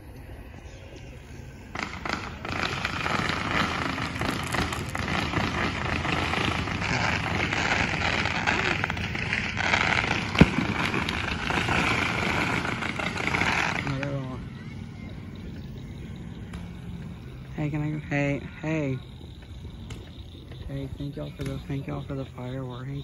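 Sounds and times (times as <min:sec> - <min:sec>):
fireworks crackling: 0:00.0 - 0:23.0
firework bang: 0:01.7 - 0:14.4, 0:15.7 - 0:22.0.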